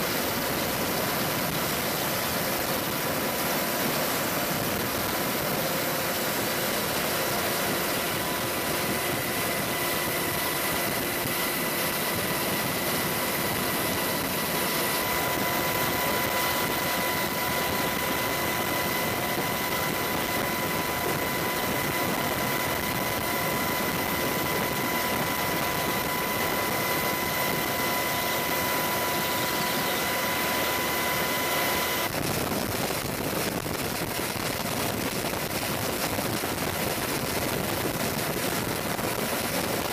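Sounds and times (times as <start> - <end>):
helicopter rotor and engine: 0.0 - 39.9
high turbine whine: 0.0 - 39.9.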